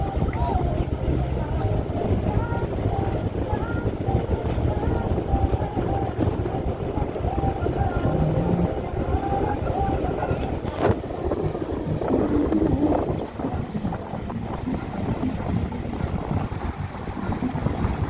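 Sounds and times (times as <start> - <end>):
faint dance song from speaker: 0.0 - 18.0
wind on microphone: 0.0 - 18.0.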